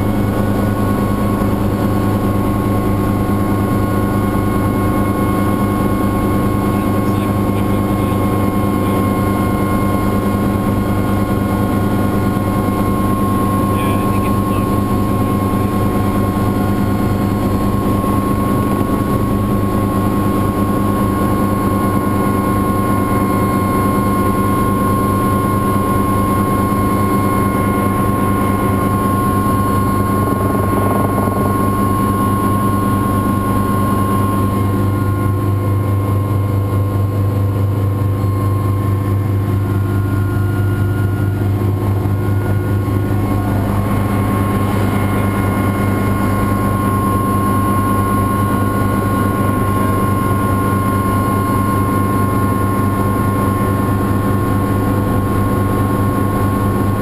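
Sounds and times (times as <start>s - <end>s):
helicopter engine and rotor drone: 0.0s - 57.0s
high engine whine: 0.0s - 57.0s.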